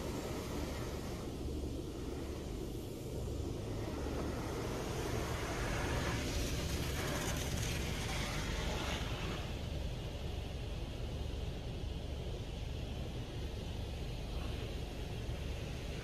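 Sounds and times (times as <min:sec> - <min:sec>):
low steady rumble: 0:00.0 - 0:16.0
water jets spraying on car: 0:00.0 - 0:16.0.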